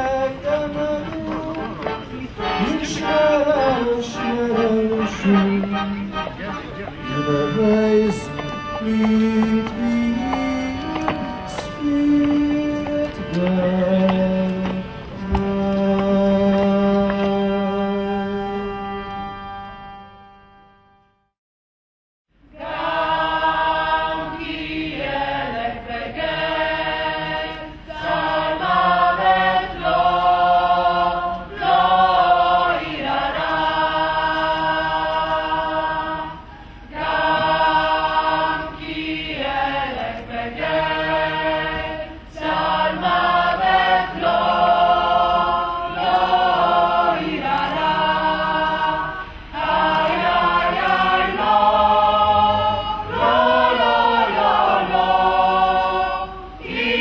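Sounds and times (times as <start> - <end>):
mixed choir singing held chords: 0.0 - 20.6, 22.4 - 57.0.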